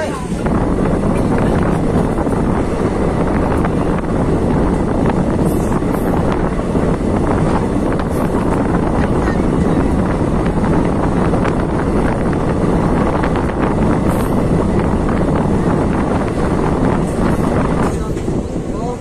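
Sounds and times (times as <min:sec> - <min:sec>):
train running on track: 0:00.0 - 0:19.0
wind rushing over microphone: 0:00.0 - 0:19.0.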